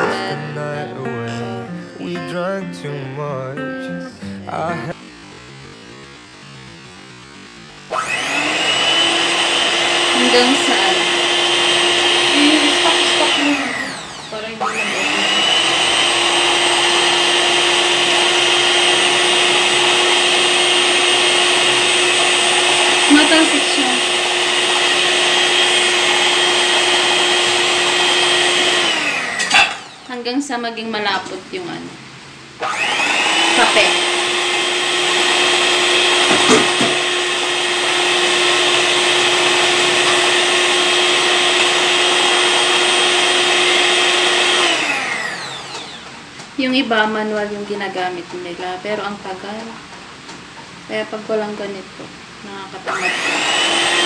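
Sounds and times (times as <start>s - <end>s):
electric mixer whining: 0.0s - 2.6s, 4.2s - 31.4s, 32.6s - 48.0s, 52.8s - 54.0s.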